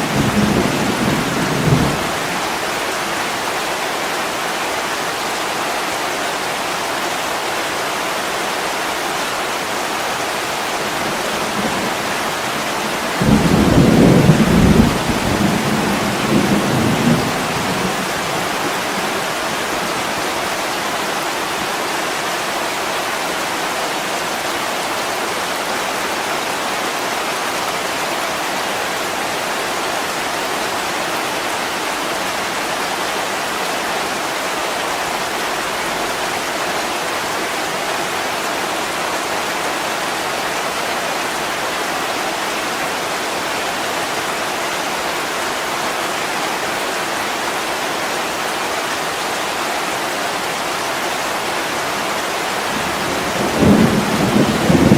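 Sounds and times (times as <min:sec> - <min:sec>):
heavy rain on a window: 0:00.0 - 0:54.9.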